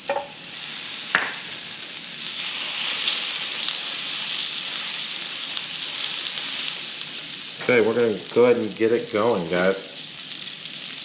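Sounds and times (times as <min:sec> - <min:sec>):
butter sizzling in a skillet: 0:00.0 - 0:11.0.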